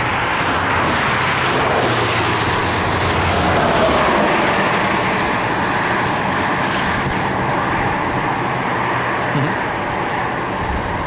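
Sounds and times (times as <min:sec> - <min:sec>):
traffic roar: 0:00.0 - 0:11.0.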